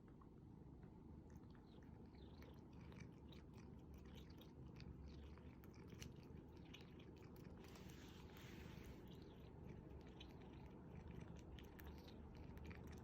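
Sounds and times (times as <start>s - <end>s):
cat chewing and licking: 0.0s - 13.0s.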